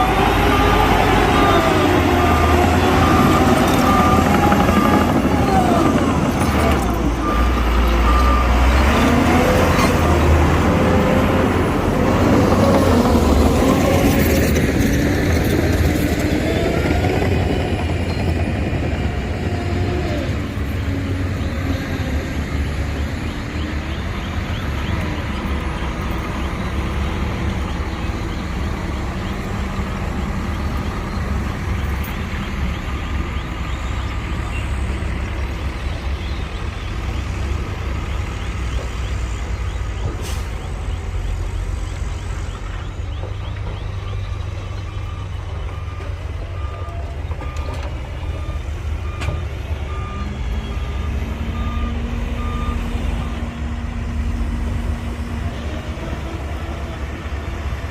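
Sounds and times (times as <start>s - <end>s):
diesel construction machinery engine: 0.0s - 57.9s.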